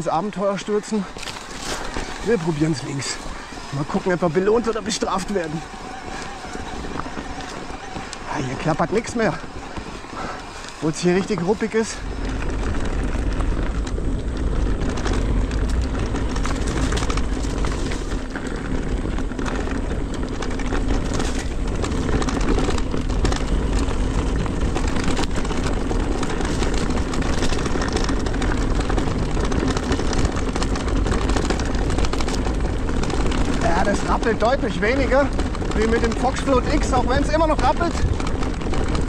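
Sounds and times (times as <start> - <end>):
bike rattles and knocks: 0.0 - 39.0
bike riding rumble: 0.0 - 39.0.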